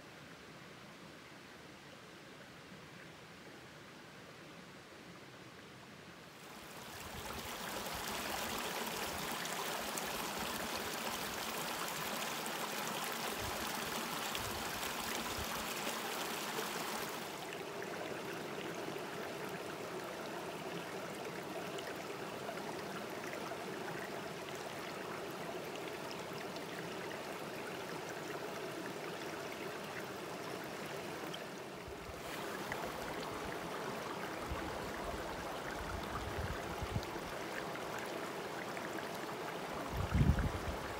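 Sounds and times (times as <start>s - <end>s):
stream water rushing over rocks: 6.4s - 40.9s.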